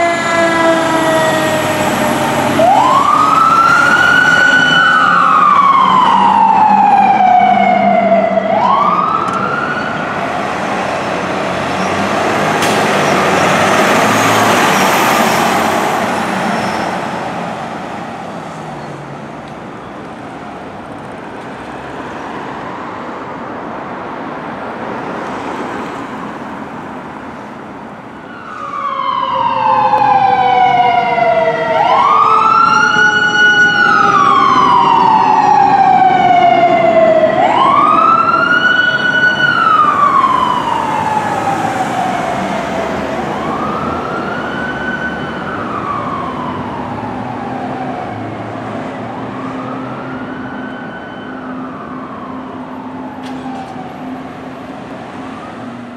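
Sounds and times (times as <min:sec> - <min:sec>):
fire engine siren wailing: 0:00.0 - 0:18.6, 0:27.1 - 0:55.9.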